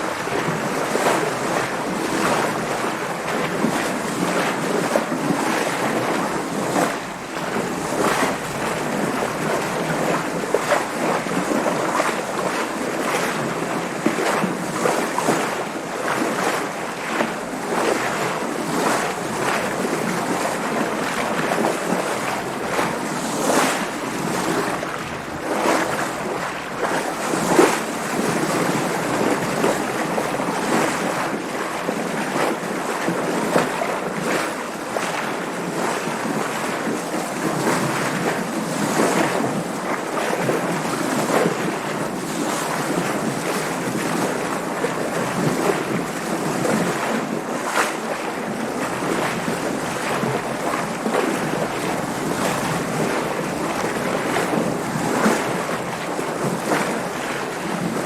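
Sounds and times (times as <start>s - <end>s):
water splashing against hull: 0.0s - 58.0s.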